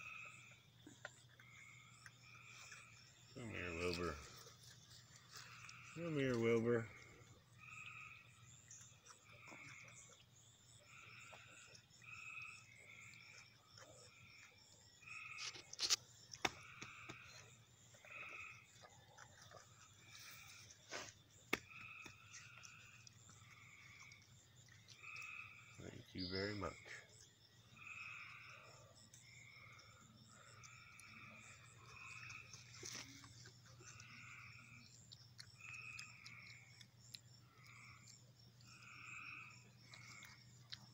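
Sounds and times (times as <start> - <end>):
faint insect-like ticking: 0.0 - 40.9
frogs trilling: 0.0 - 40.9.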